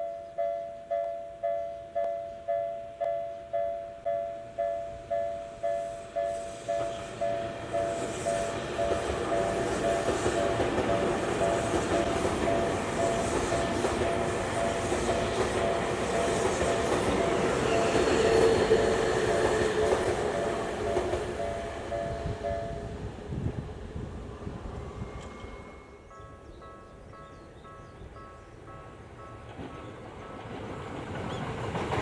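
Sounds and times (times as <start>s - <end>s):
train running noise: 4.4s - 32.0s.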